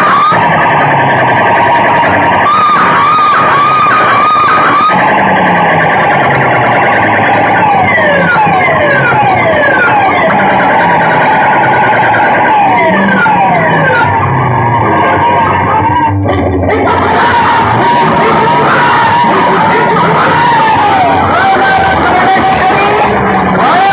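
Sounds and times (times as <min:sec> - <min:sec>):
loud electronic dance music: 0:00.0 - 0:23.9
pulsing bass beat: 0:00.0 - 0:23.9
warbling siren-like tone: 0:00.0 - 0:23.9.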